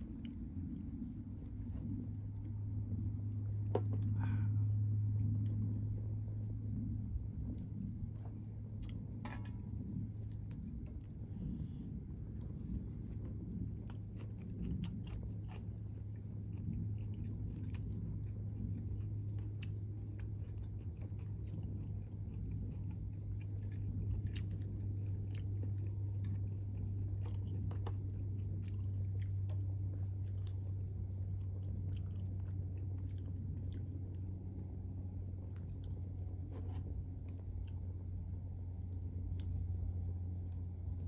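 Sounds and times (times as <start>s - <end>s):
log fire crackles: 0.0s - 41.0s
person chewing food: 0.0s - 41.0s
steady low hum: 0.0s - 41.0s.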